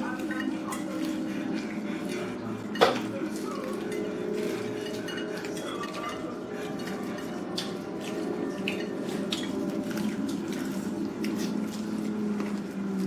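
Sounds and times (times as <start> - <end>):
cutlery and dishes clinking: 0.0 - 1.2, 2.1 - 11.8.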